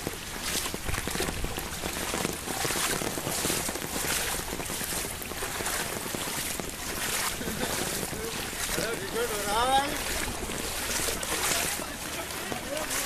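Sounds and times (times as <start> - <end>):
heavy rain: 0.0 - 13.0
water rushing across a road: 0.0 - 13.0.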